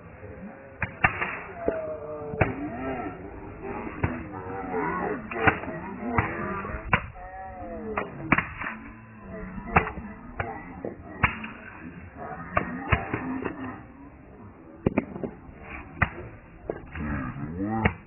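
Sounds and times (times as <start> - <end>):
voices: 0.0 - 18.0.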